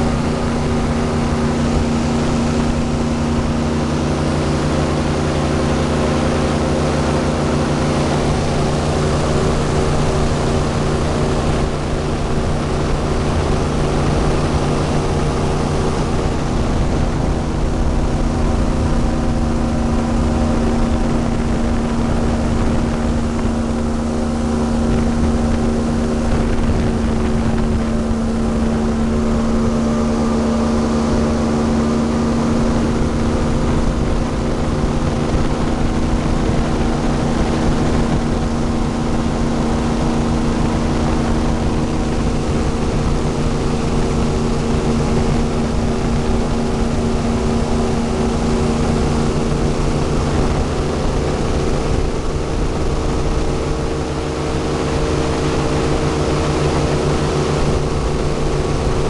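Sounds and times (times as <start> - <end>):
airboat engine and propeller drone: 0.0 - 59.0.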